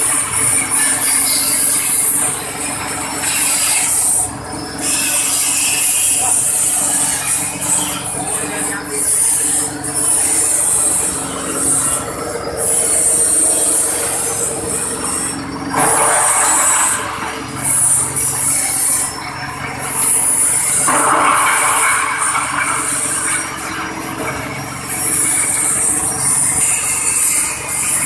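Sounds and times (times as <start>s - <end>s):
chopping machine engine running: 0.0s - 28.0s
high squeal: 0.0s - 28.0s.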